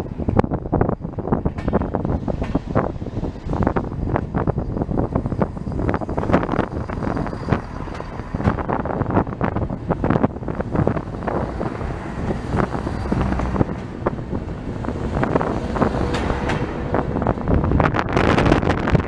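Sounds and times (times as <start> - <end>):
wind rushing at open window: 0.0 - 19.0
train wheels clattering over rails: 1.3 - 18.9.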